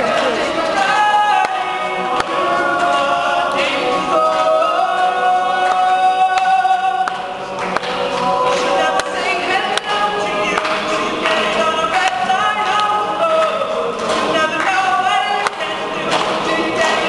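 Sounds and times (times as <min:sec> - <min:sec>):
male a cappella group singing: 0:00.0 - 0:17.0.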